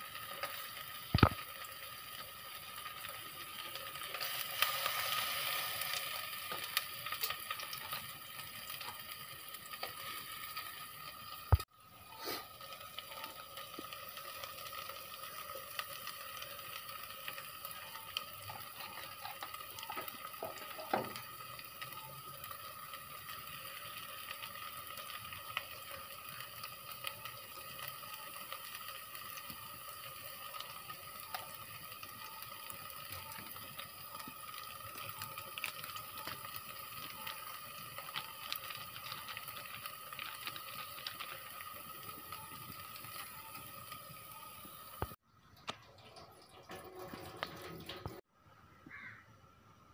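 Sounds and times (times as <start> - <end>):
onions sizzling in oil: 0.0 - 45.2.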